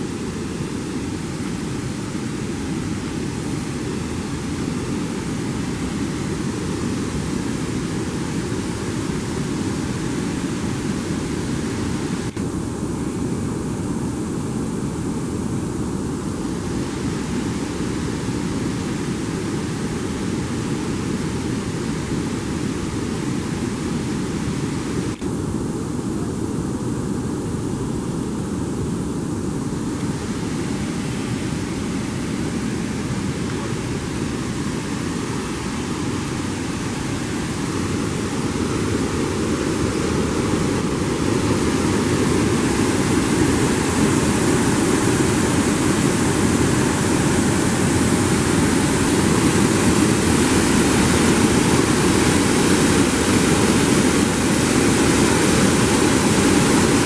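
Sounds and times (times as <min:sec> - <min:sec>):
water rushing over weir: 0:00.0 - 0:57.0.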